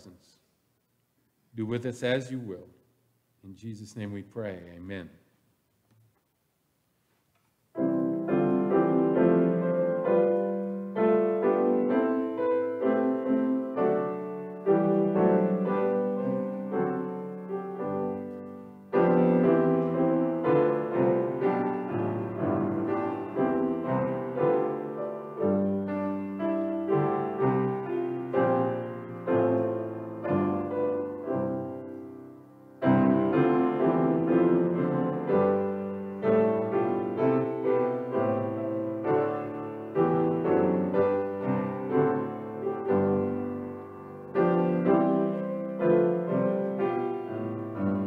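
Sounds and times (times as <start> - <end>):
piano chords: 7.7 - 48.0.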